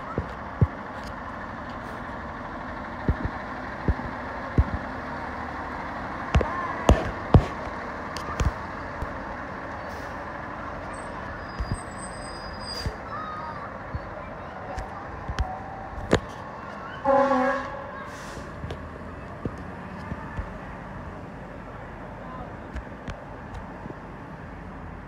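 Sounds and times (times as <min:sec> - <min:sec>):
fire engine rumbling: 0:00.0 - 0:25.0.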